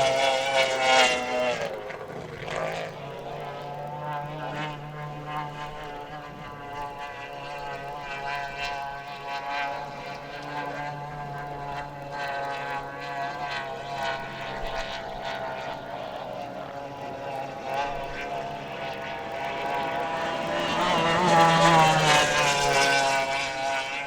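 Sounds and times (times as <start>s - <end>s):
racing boat engines droning: 0.0s - 24.0s.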